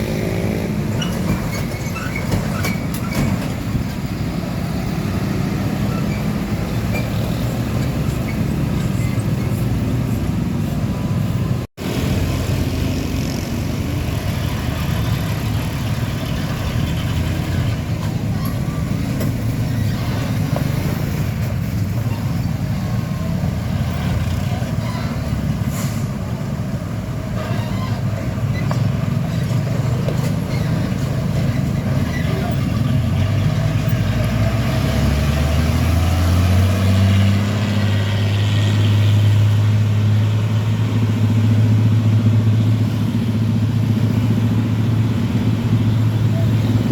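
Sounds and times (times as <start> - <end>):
large truck engine running: 0.0 - 46.9
road rumble: 0.0 - 46.9.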